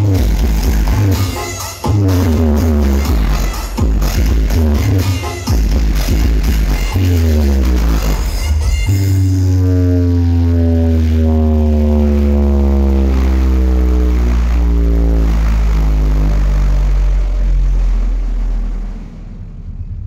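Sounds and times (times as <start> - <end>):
deep bass drone over sound system: 0.0 - 20.0.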